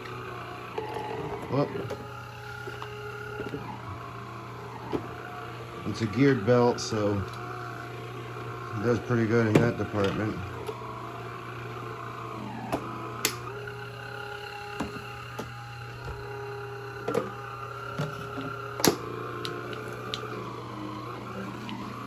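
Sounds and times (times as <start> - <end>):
floor sweeper motor humming: 0.0 - 22.0.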